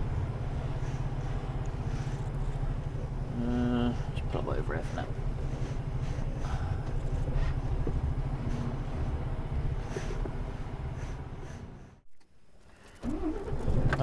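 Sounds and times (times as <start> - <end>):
diesel lorry engine rumbling: 0.0 - 14.0.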